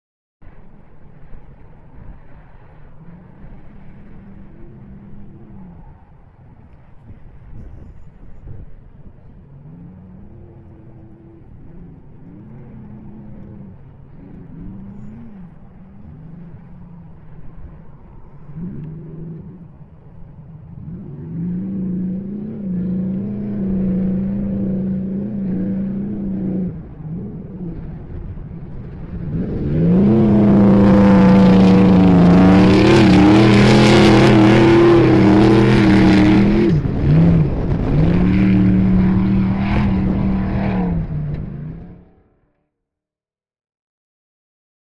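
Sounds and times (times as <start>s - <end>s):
truck engine revving high: 1.2s - 42.3s.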